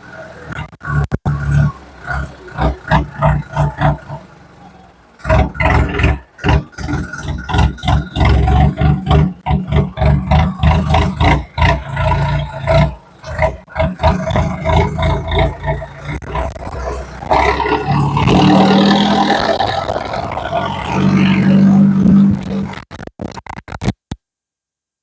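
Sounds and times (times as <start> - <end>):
tractor diesel engine revving: 0.0 - 22.8.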